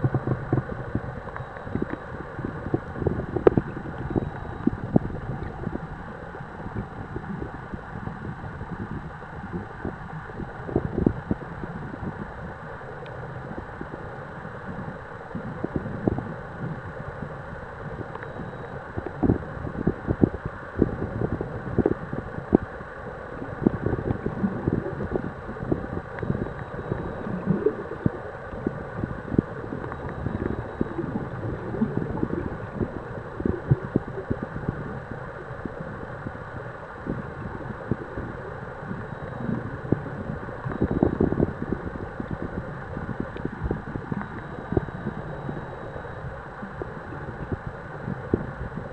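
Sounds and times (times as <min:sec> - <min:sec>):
muffled underwater rumble: 0:00.0 - 0:48.9.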